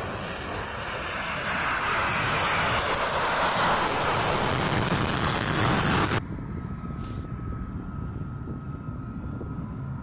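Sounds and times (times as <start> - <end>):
jet engine at full power: 0.0 - 10.0.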